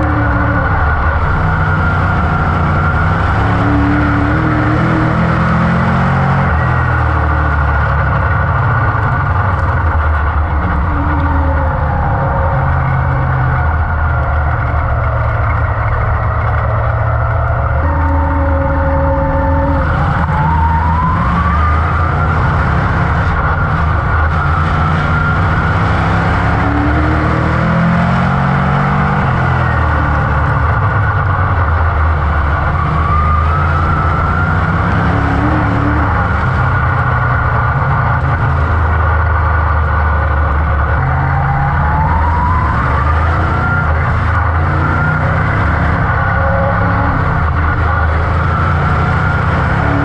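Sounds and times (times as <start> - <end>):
race car engine running hard: 0.0 - 50.0.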